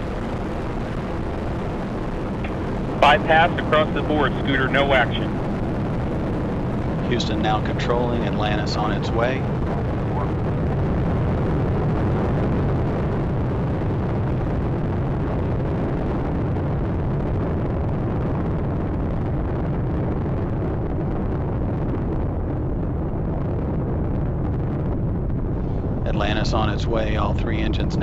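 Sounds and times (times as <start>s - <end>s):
rocket engines roaring: 0.0s - 28.0s.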